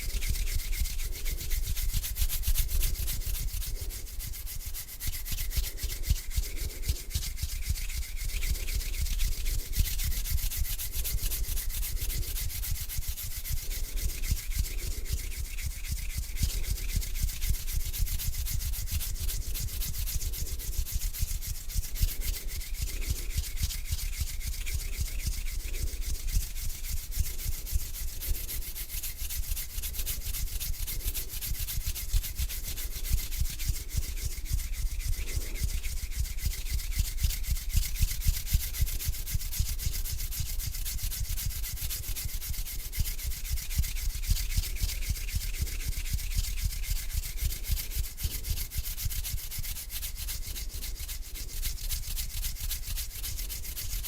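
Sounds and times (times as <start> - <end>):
hands rubbing together: 0.0 - 54.0.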